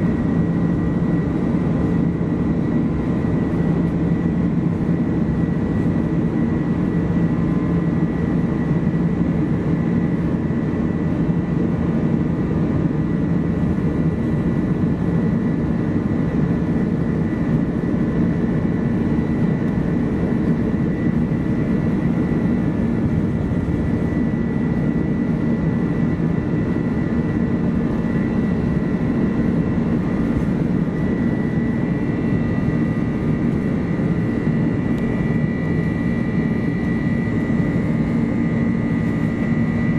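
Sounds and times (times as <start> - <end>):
engine and airflow rumble: 0.0 - 39.9.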